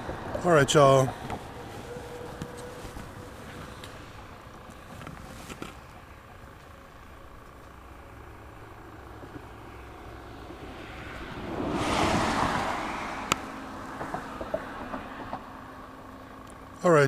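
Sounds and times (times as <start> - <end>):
car passing: 0.0 - 5.0, 6.9 - 16.8.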